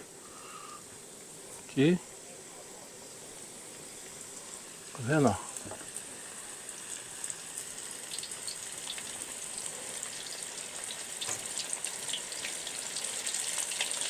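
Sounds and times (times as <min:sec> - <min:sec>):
fish frying in hot oil: 0:00.9 - 0:14.0.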